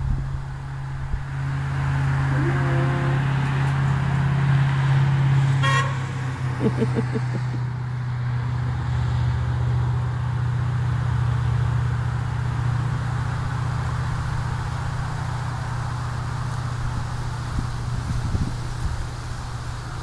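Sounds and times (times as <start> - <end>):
car engine hum: 0.0 - 20.0
tyre and road hiss: 0.0 - 20.0.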